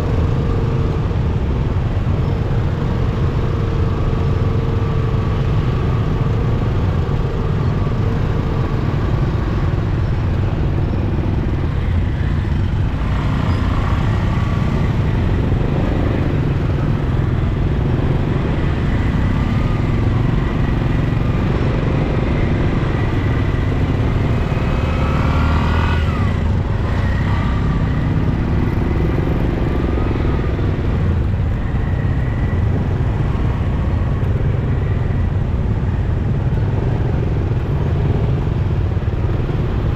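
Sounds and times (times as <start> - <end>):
motorcycle engine: 3.3 - 39.9.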